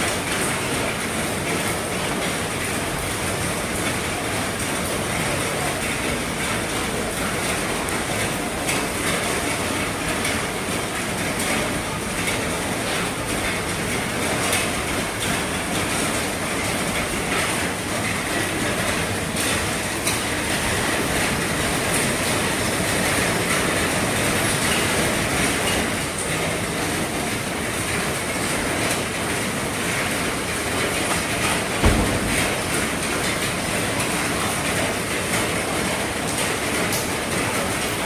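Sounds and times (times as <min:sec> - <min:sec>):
heavy rain drumming on a roof: 0:00.0 - 0:38.0.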